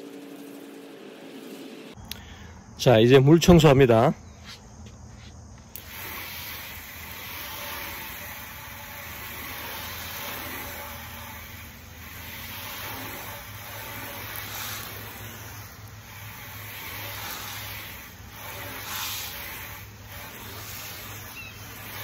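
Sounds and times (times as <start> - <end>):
hose water spraying: 0.0 - 2.0, 5.6 - 22.0.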